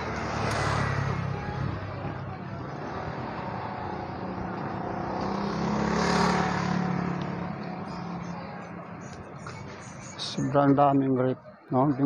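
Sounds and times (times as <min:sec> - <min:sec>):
vehicle engine passing: 0:00.0 - 0:09.8
traffic noise: 0:00.0 - 0:12.0.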